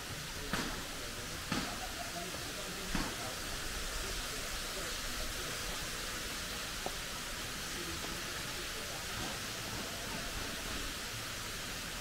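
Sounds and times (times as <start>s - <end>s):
rushing water hiss: 0.0s - 12.0s.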